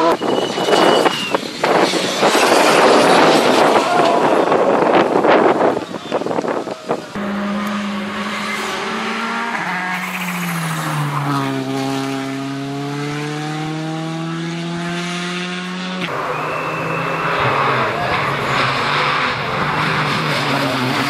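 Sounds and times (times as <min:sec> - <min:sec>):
rally car engines: 0:00.0 - 0:21.0.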